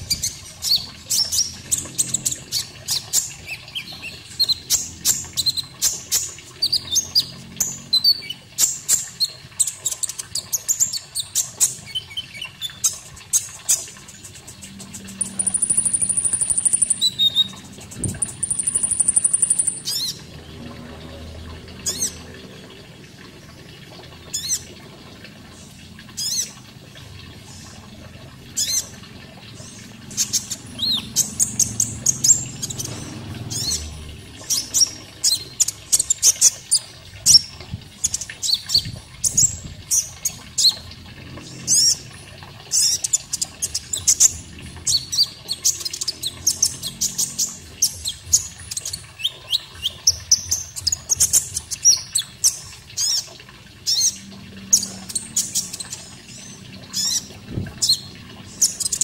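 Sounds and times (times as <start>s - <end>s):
water flowing: 0.0s - 59.0s.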